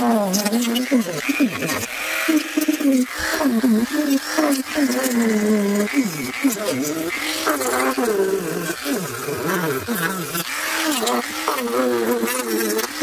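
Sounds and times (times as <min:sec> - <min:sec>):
rotary tool sanding: 0:00.0 - 0:13.0.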